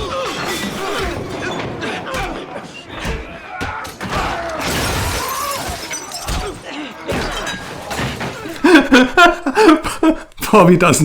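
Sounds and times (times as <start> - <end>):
crashing and smashing noises: 0.0 - 9.5.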